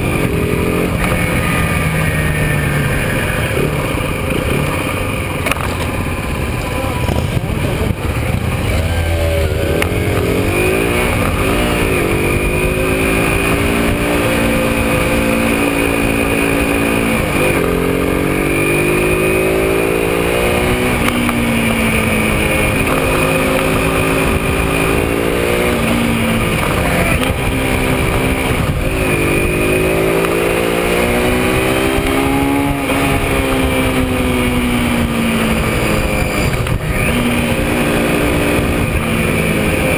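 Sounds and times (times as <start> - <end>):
motorcycle engines accelerating: 0.0 - 39.9
steady rushing noise: 0.0 - 39.9.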